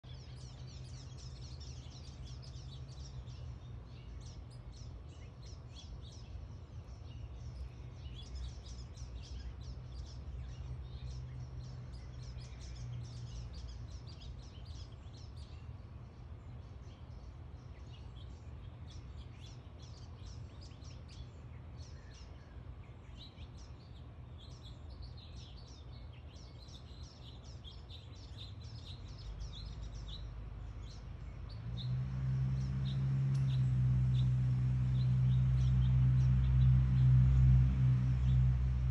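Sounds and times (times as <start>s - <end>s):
low background rumble: 0.0s - 38.9s
songbirds chirping: 0.0s - 38.9s.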